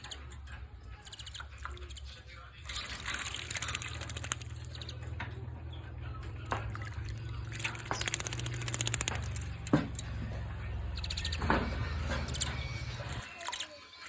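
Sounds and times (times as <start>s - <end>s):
nestlings raspy begging calls: 0.0s - 14.0s.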